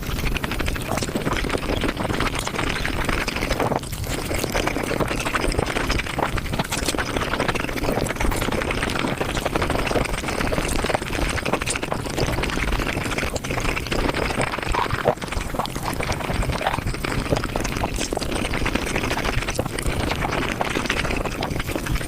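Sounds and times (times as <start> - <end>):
fast chewing and mouth clicks: 0.0 - 22.0.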